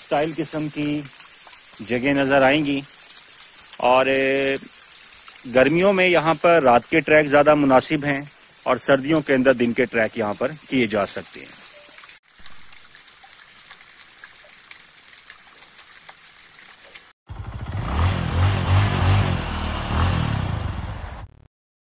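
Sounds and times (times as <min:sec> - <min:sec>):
waterfall falling into pool: 0:00.0 - 0:21.0.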